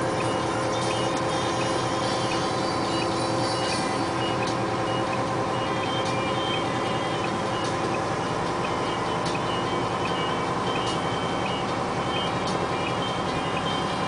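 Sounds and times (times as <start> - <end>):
back-up alarm beeping: 0.0 - 14.0
diesel truck engine running: 0.0 - 14.0.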